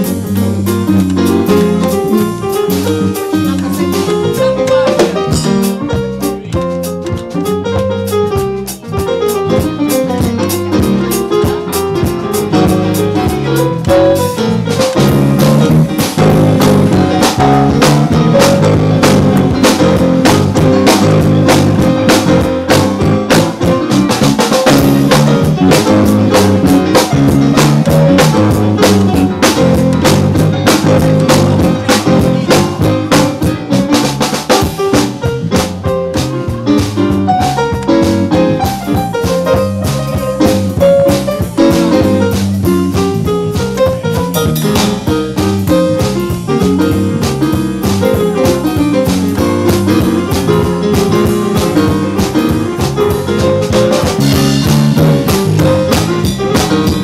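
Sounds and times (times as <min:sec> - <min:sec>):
drum kit with cymbals: 0:00.0 - 0:57.0
electric bass: 0:00.0 - 0:57.0
keyboard: 0:00.0 - 0:57.0.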